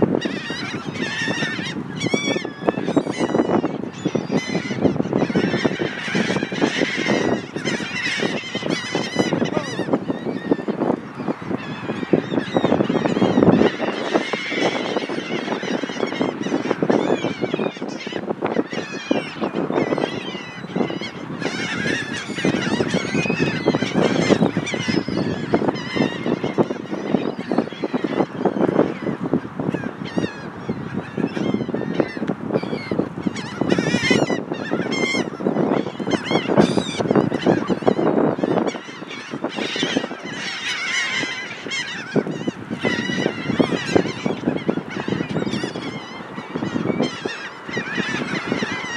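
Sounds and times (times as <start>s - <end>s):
seagulls squawking: 0.0s - 48.9s.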